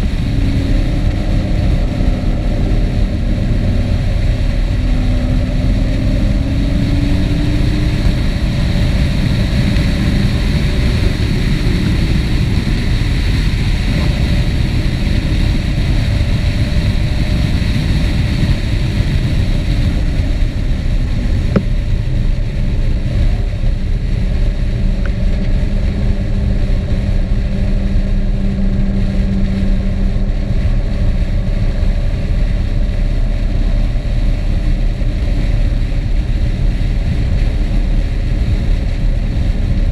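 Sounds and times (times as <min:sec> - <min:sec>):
engine note rising: 0:00.0 - 0:39.9
wind and road noise: 0:00.0 - 0:39.9.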